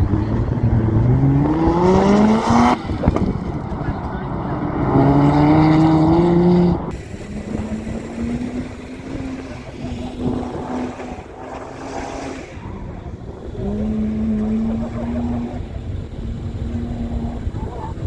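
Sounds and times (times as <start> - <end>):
car engine revving under load: 0.0 - 18.0.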